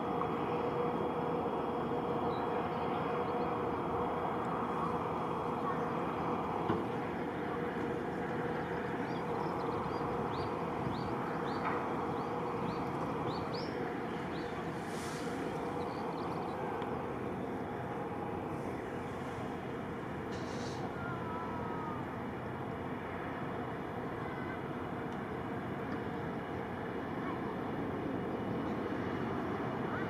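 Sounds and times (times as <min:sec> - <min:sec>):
aircraft engine hum: 0:00.0 - 0:30.0.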